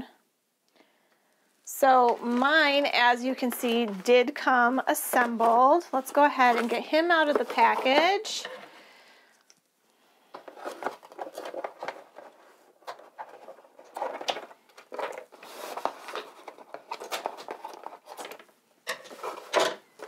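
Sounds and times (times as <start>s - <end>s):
cardboard rustling: 2.0s - 8.8s, 10.3s - 20.0s.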